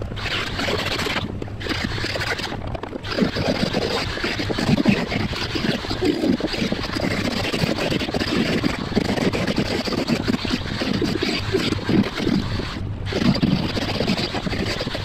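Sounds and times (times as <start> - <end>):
die grinder cutting fiberglass: 0.0 - 15.0.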